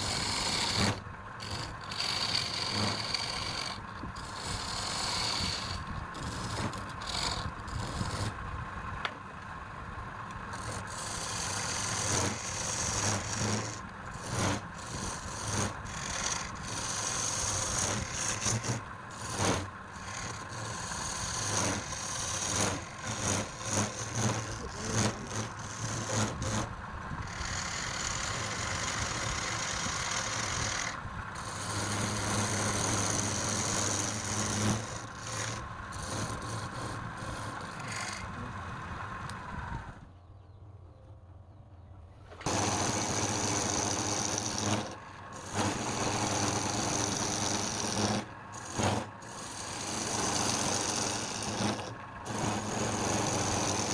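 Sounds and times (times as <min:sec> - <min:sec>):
tool rasping on spinning wood: 0:00.0 - 0:08.5, 0:10.4 - 0:38.8, 0:42.4 - 0:53.9
wood lathe motor hum: 0:00.0 - 0:09.5, 0:10.2 - 0:40.0, 0:42.4 - 0:53.9.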